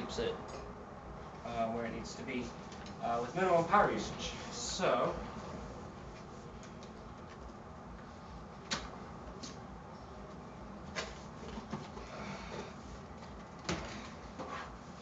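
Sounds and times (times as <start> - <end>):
faint room noise: 0.0 - 15.0.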